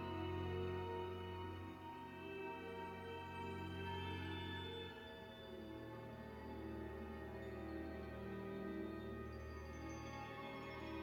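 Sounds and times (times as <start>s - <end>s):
soft film music: 0.0s - 11.0s.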